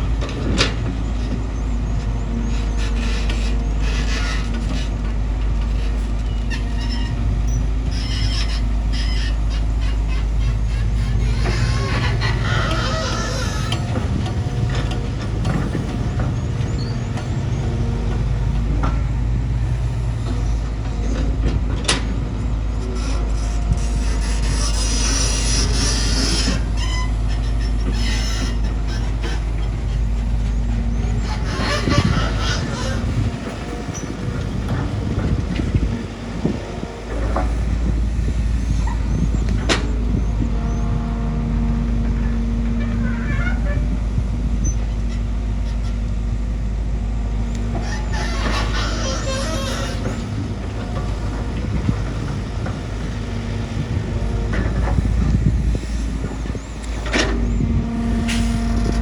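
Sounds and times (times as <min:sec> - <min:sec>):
bulldozer diesel engine rumbling: 0:00.0 - 0:59.0.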